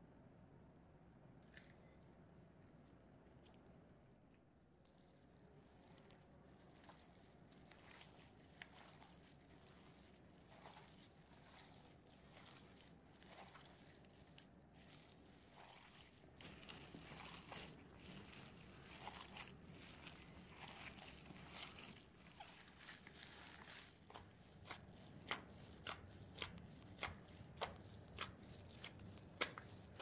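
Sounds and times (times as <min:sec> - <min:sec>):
hand kneading minced meat: 0:01.5 - 0:30.0.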